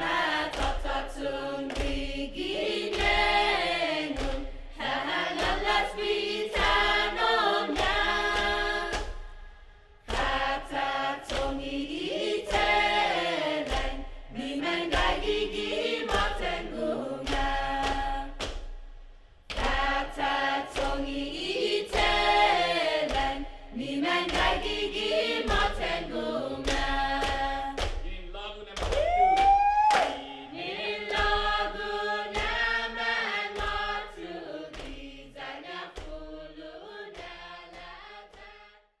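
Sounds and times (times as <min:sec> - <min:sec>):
choir singing a chant: 0:00.0 - 0:09.4, 0:10.0 - 0:18.4, 0:19.5 - 0:28.7, 0:30.1 - 0:38.9.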